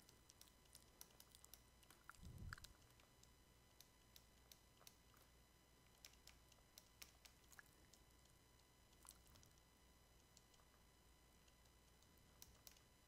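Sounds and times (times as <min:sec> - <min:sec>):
stylus clicking on a tablet: 0:00.0 - 0:10.8, 0:11.4 - 0:12.9.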